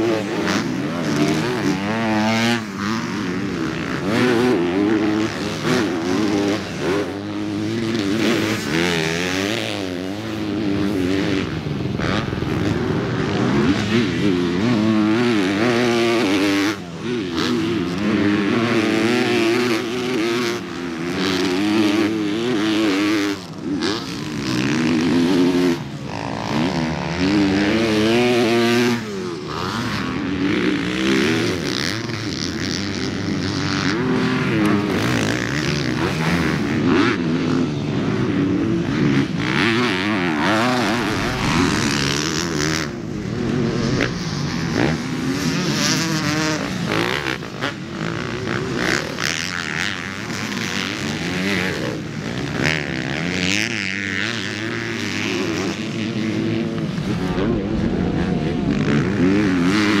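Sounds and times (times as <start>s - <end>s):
dirt bike engines revving: 0.0s - 60.0s.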